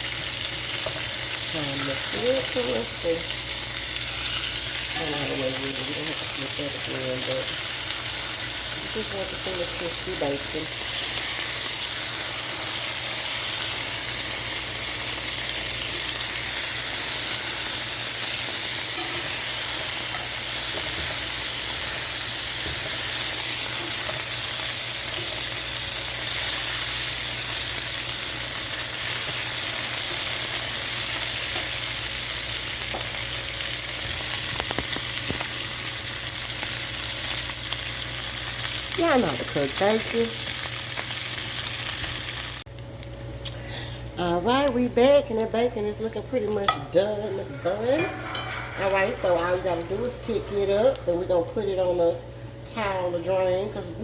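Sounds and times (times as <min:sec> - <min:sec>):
bacon sizzling in a pan: 0:00.0 - 0:54.0.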